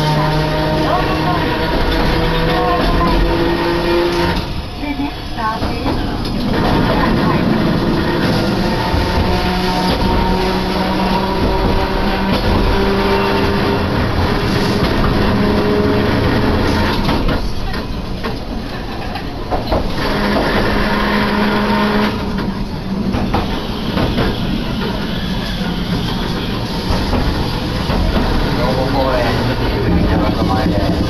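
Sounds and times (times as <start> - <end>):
streetcar motor tone: 0.0 - 31.0
wheels rumbling on rail: 0.0 - 31.0.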